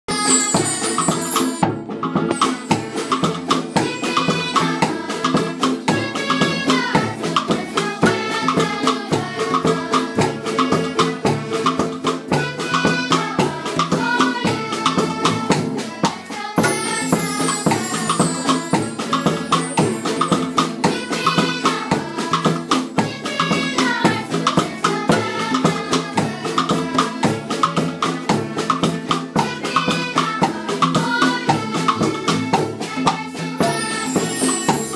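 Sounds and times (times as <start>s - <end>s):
music with rattling percussion: 0.1s - 34.9s.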